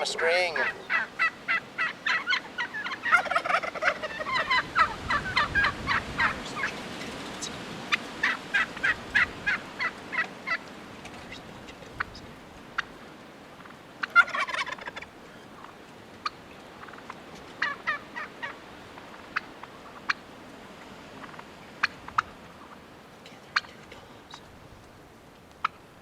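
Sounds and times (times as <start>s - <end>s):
turkeys gobbling: 0.0s - 25.9s.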